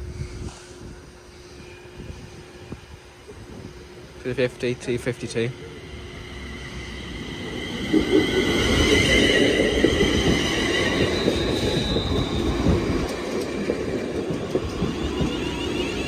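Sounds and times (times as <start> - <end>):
train high whine: 0.0 - 16.0
train wheels rumbling on rail: 0.0 - 16.0.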